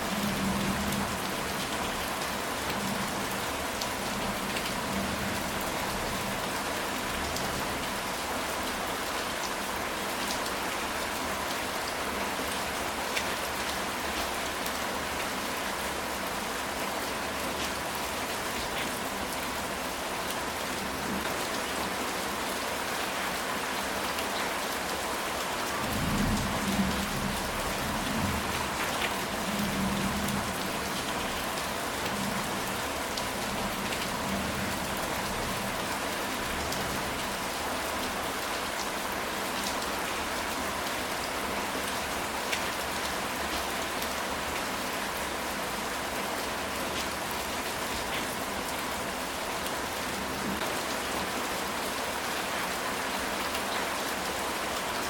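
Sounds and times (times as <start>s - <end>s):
rain on a tile roof: 0.0s - 55.0s.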